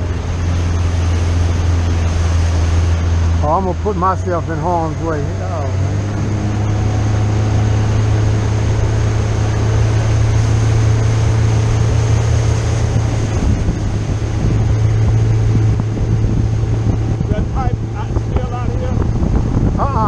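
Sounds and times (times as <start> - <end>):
motorboat engine drone: 0.0 - 20.0
rush of wind and water: 0.0 - 20.0.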